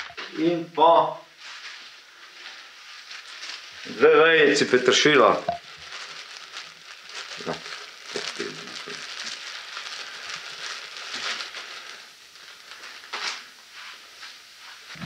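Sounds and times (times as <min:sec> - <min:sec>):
pot sizzling and crackling: 0:01.4 - 0:15.0.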